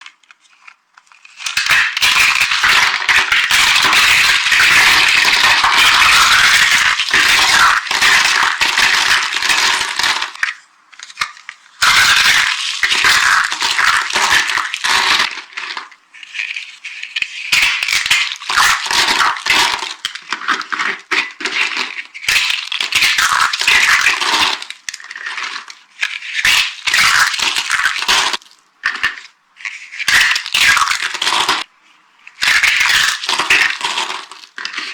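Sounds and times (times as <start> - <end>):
dry soap crunching: 0.0 - 34.9.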